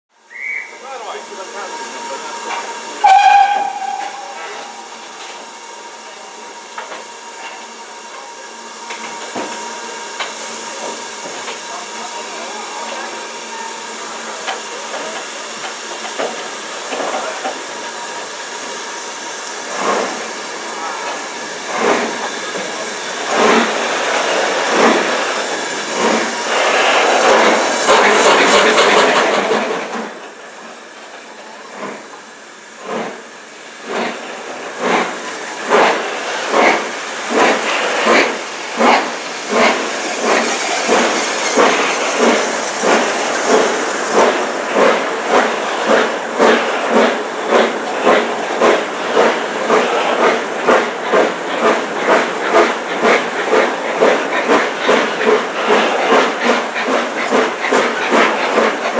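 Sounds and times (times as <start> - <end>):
loud rush of steam: 0.2 - 58.9
steam hiss: 0.2 - 58.9
steam locomotive exhaust chuffs: 0.3 - 58.9.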